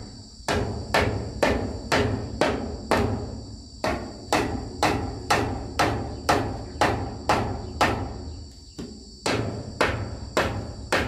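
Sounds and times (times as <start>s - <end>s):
high insect drone: 0.0s - 11.0s
hammer striking wooden wall: 0.5s - 11.0s.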